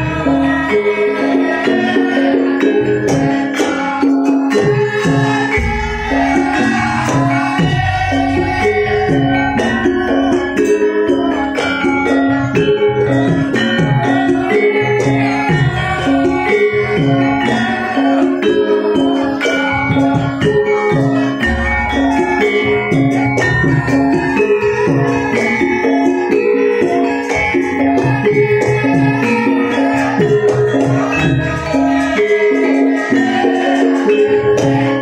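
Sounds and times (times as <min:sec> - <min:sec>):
jingling percussion: 0:00.0 - 0:35.0
metal percussion strikes: 0:00.0 - 0:35.0.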